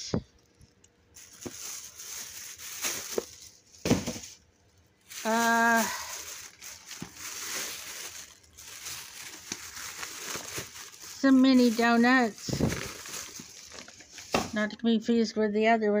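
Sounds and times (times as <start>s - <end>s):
plastic bags rustling: 0.0s - 14.7s.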